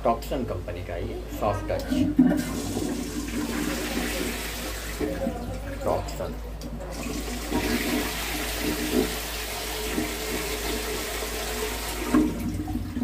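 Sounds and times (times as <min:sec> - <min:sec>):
toilet flushing: 0:01.9 - 0:13.0.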